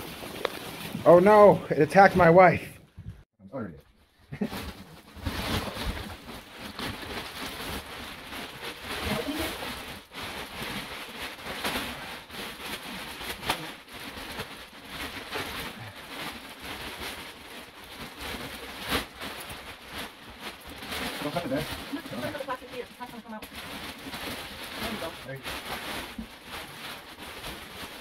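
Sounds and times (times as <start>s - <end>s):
plastic wrapping crinkling: 0.0s - 2.5s, 3.9s - 28.0s.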